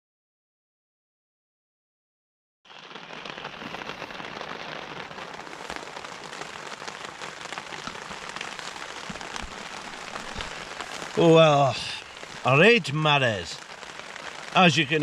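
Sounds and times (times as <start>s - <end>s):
heavy rain on a tent: 2.7s - 15.0s.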